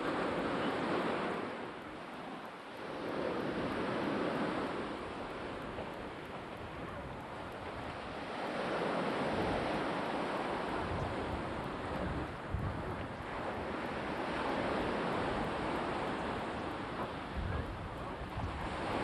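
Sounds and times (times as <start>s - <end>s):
surf washing onto shore: 0.0s - 19.0s.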